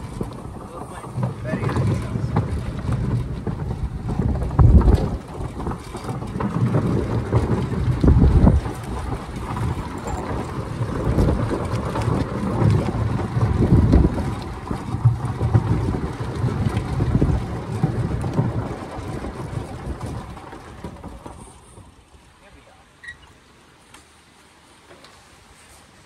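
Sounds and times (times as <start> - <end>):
wind buffeting the microphone: 0.0 - 22.2
golf cart running: 0.0 - 26.0.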